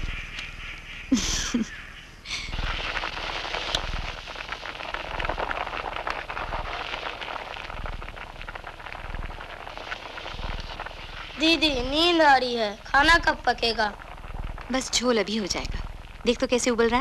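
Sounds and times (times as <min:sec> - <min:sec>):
food sizzling in a metal pan: 0:02.5 - 0:17.0.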